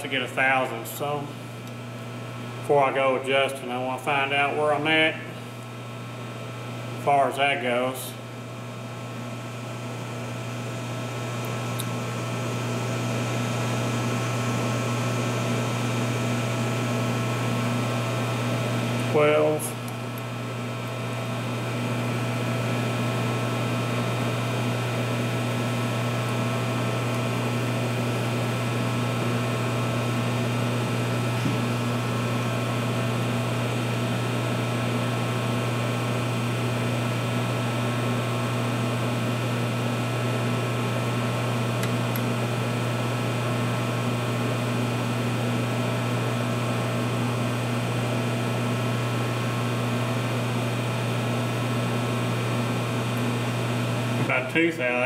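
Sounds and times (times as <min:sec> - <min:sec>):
electric machinery hum: 0:00.0 - 0:55.0.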